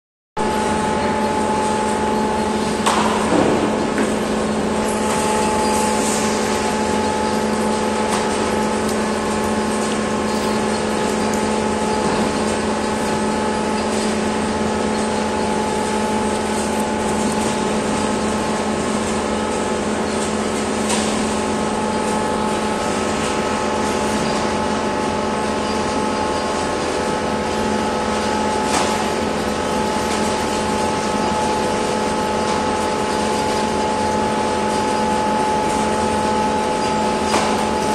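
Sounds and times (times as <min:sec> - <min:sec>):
steady machine hum: 0:00.4 - 0:37.9.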